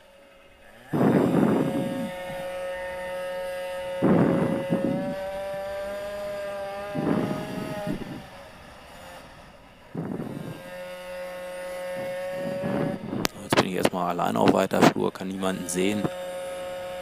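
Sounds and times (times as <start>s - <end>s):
high-pitched two-stroke engine whine: 0.0s - 17.0s.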